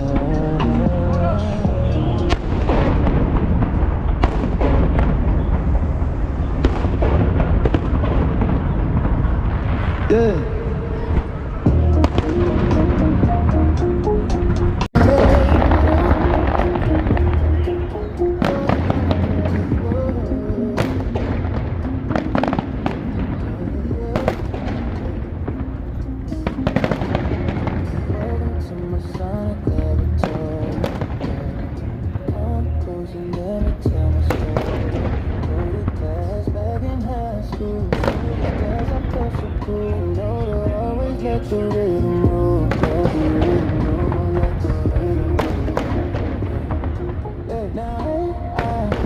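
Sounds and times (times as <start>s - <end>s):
music playing: 0.0s - 5.1s, 10.1s - 49.0s
fireworks bangs and crackles: 0.0s - 13.6s, 14.9s - 49.0s
low rumble: 0.0s - 47.7s.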